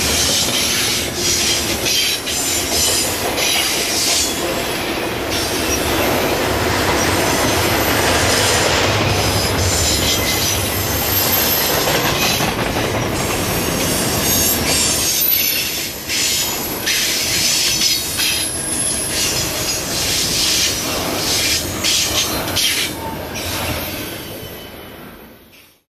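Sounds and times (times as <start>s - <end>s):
train wheels rumbling over rail joints: 0.0s - 24.2s.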